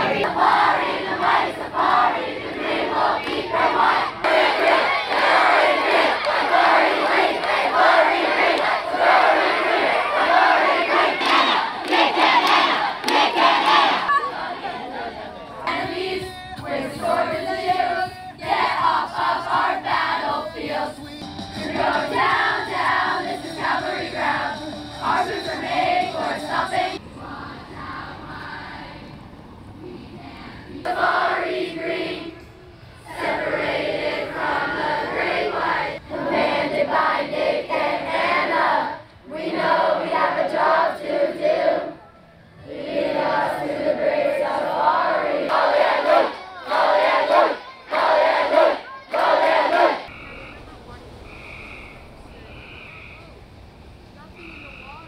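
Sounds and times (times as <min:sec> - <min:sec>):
group singing and chanting: 0:00.0 - 0:42.0, 0:42.6 - 0:50.1.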